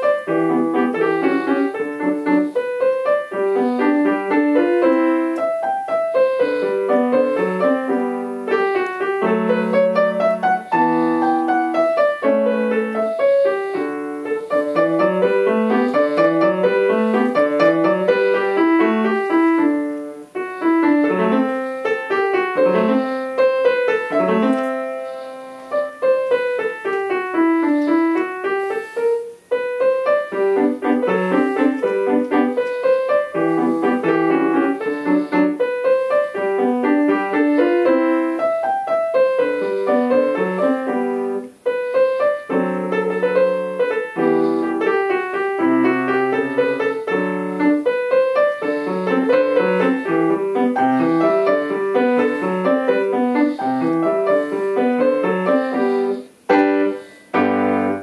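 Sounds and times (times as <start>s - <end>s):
grand piano playing runs: 0.0s - 58.0s.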